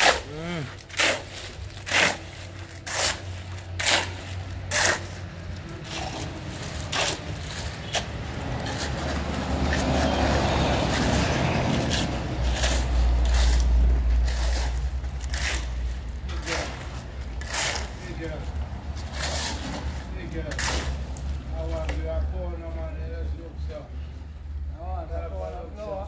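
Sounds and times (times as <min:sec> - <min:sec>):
shovel scraping wet concrete: 0:00.0 - 0:22.1
vehicle engine rumble: 0:00.0 - 0:26.0.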